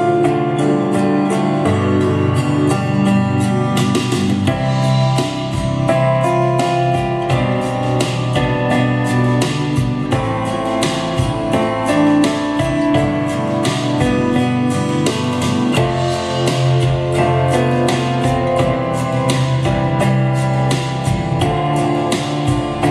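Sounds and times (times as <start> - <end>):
guitar strumming through a speaker: 0.0 - 22.9.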